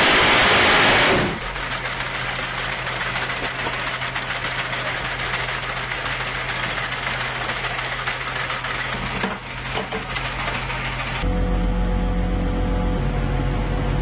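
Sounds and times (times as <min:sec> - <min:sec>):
machinery humming and rattling: 0:00.0 - 0:14.0.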